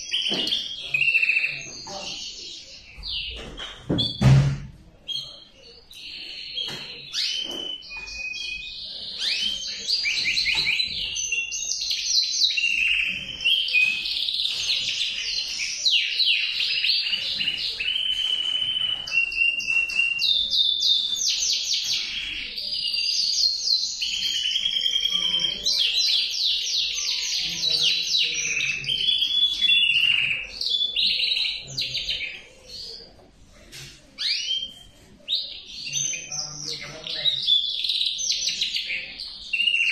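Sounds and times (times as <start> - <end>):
canary singing trills: 0.0 - 4.4, 5.1 - 39.9.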